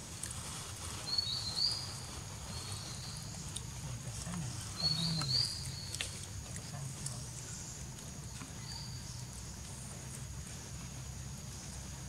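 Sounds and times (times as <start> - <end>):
forest background noise: 0.0 - 12.0.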